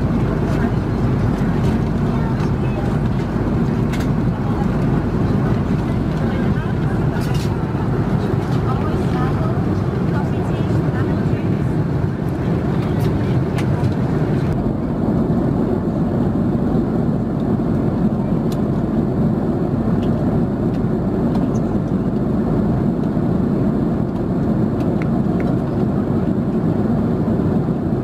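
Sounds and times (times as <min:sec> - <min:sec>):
airplane cabin engine rush: 0:00.0 - 0:28.0.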